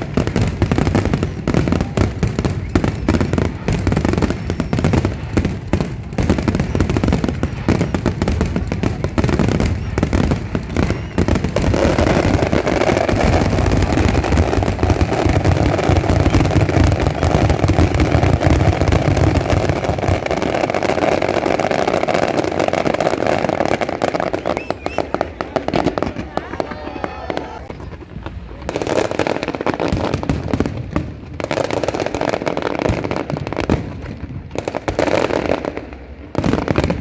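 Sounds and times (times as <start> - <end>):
crackling hiss of fireworks: 0.0 - 37.0
fireworks bangs and booms: 0.0 - 37.0.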